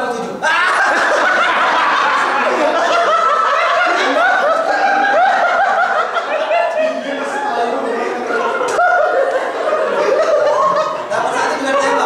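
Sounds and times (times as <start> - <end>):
audience laughing: 0.4 - 12.0.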